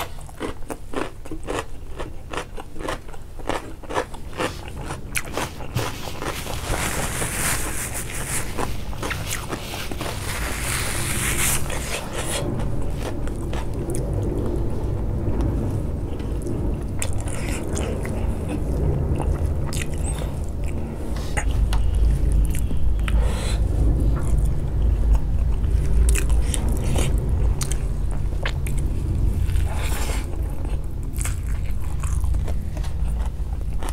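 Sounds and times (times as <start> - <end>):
close-up chewing: 0.0 - 33.9.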